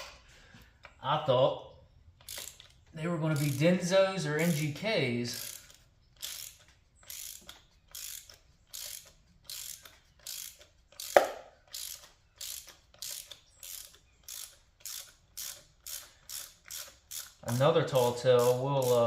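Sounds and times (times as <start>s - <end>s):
hand ratchet clicking: 2.1s - 19.0s.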